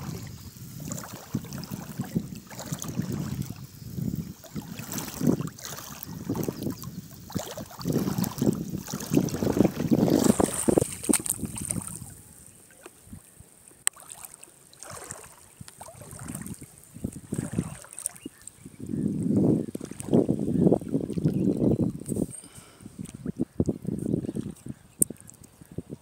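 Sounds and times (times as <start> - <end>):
wind buffeting microphone: 0.0 - 12.4, 14.9 - 17.9, 18.6 - 26.0
ripples lapping in shallow water: 0.0 - 26.0.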